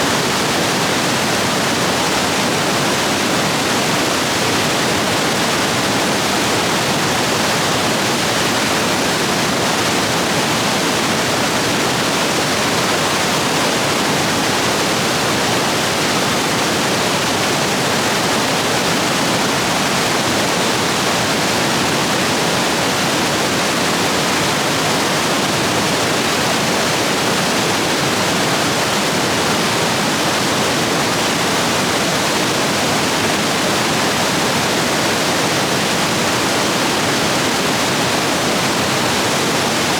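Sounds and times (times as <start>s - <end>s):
stream rapids rushing over rocks: 0.0s - 39.9s.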